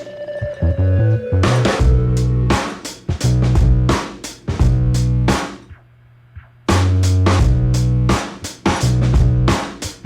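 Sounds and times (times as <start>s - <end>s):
guitar bass and drums music: 0.6s - 5.8s, 6.4s - 10.0s.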